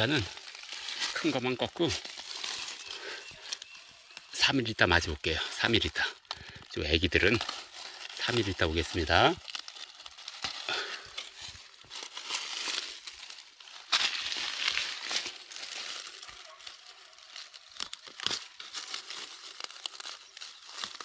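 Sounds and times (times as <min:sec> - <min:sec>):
dry leaves crackling and rustling: 0:00.0 - 0:21.0
sharp crunch: 0:00.0 - 0:21.0.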